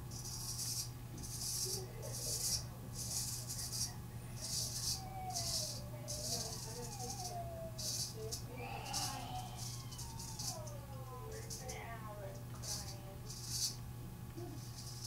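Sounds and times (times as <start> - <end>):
razor scraping stubble: 0.1 - 13.8, 14.5 - 15.0.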